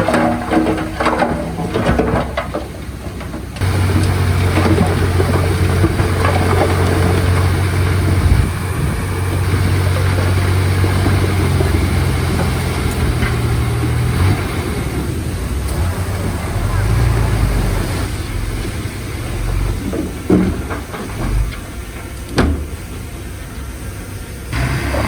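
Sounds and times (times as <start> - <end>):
diesel engine of earthmoving machine: 0.0 - 25.0.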